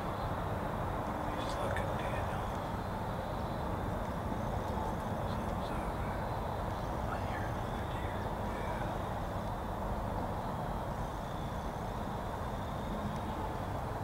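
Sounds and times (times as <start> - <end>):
low rumbling background noise: 0.0 - 14.0
faint bird calls: 1.1 - 13.8.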